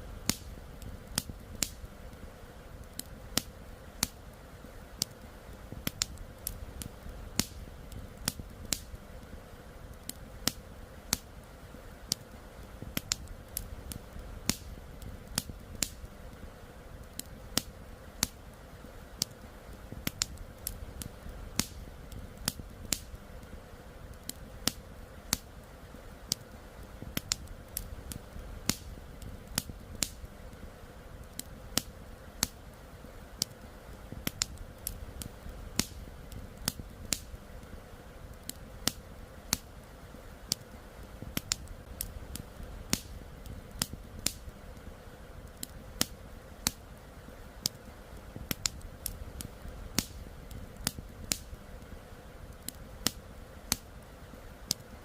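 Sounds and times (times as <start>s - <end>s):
campfire wood crackling: 0.0s - 55.0s.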